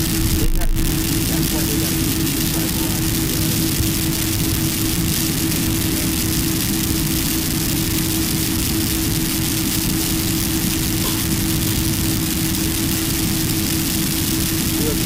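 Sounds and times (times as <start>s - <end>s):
airliner cabin engine hum: 0.0s - 15.0s.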